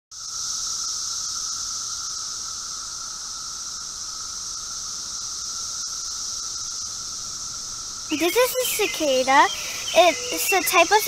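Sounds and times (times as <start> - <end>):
cicadas high-pitched drone: 0.1 - 11.0.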